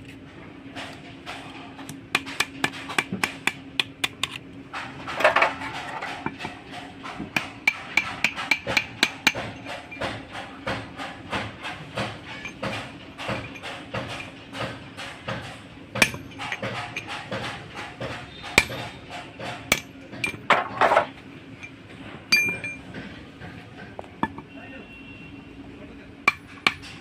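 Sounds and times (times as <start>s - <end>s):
hammer striking steel: 0.8s - 21.0s, 21.6s - 24.6s, 26.2s - 27.0s.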